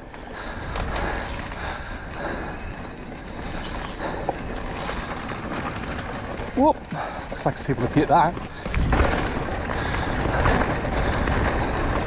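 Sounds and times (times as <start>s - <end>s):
bike rattling and knocking: 0.0s - 12.0s
tyre and wind rush: 0.0s - 12.0s.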